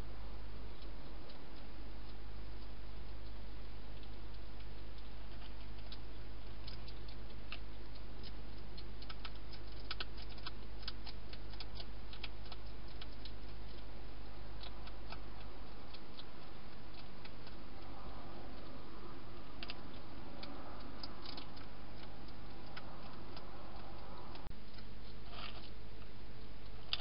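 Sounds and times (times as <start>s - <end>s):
steady low hum: 0.0s - 27.0s
hedgehog crunching dry food: 0.7s - 27.0s.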